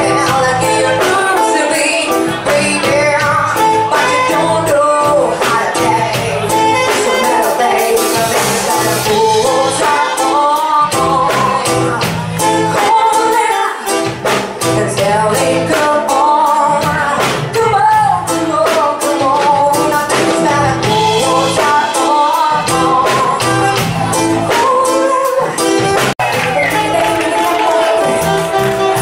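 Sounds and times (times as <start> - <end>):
reggae band playing: 0.0 - 29.0
woman singing into microphone: 0.0 - 29.0.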